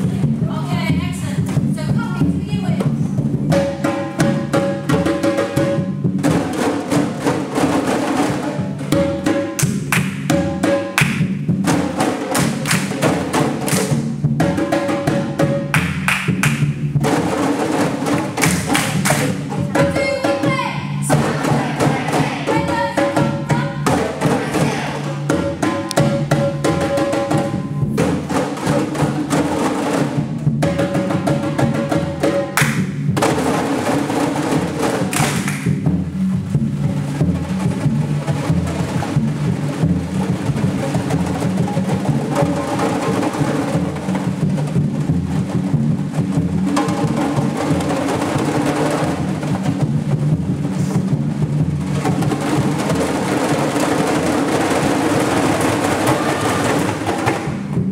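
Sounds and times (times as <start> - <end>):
samba drums and percussion: 0.0 - 57.9.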